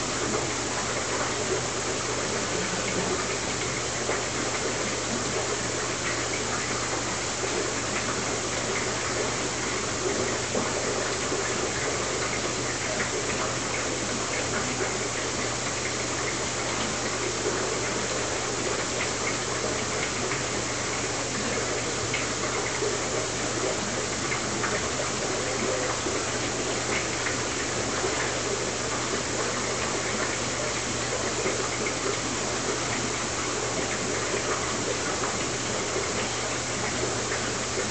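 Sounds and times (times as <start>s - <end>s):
aquarium water rushing: 0.0s - 37.9s.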